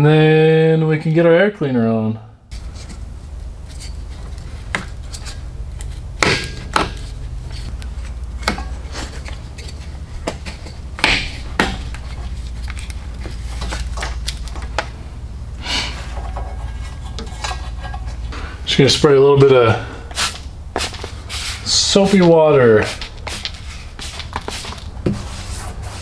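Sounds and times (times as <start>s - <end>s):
steady low hum: 1.0s - 26.0s.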